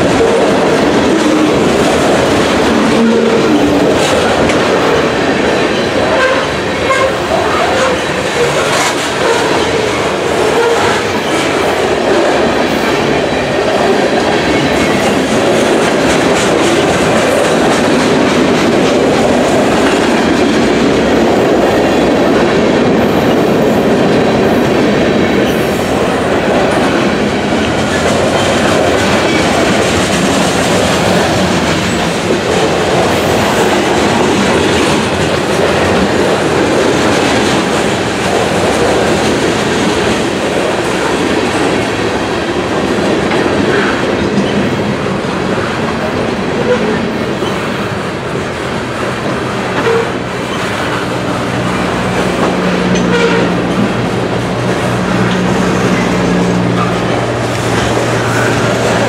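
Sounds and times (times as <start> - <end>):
freight train rumble: 0.0 - 59.0
train wheels clicking over rail joints: 0.0 - 59.0.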